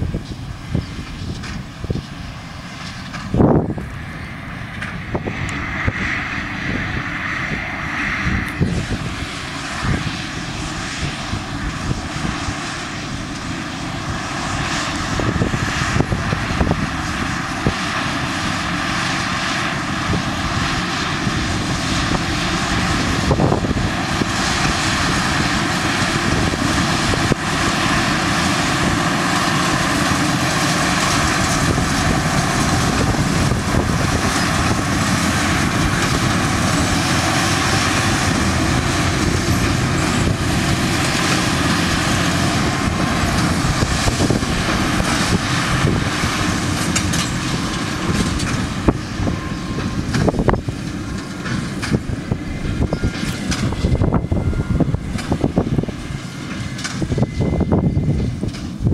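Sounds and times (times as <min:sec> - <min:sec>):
tractor engine under load: 0:00.0 - 0:58.9.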